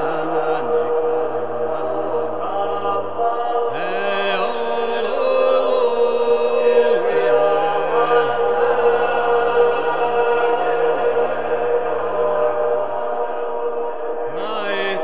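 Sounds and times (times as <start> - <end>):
low voice chanting: 0.0 - 15.0
steady held drone: 0.0 - 15.0.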